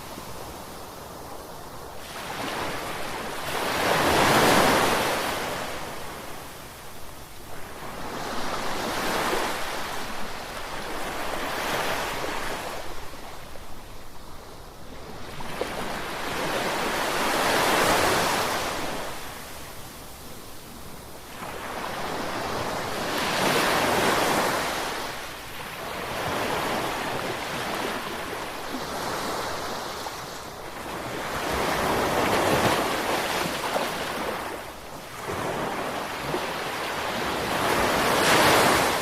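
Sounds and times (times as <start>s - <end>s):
ocean waves breaking on shore: 0.0s - 6.9s, 14.6s - 39.0s.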